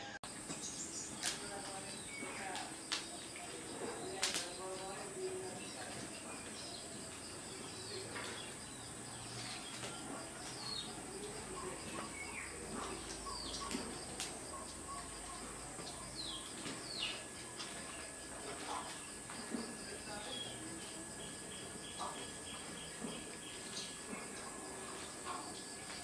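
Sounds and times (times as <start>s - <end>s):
high insect drone: 0.0s - 26.0s
faint bird chirps: 0.6s - 26.0s.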